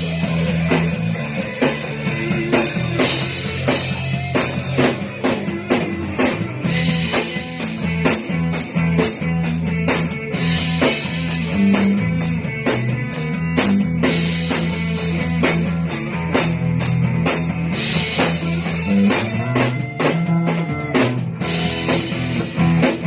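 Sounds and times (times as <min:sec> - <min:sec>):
drum kit steady beat: 0:00.0 - 0:23.0
guitar holding low notes: 0:00.0 - 0:23.0.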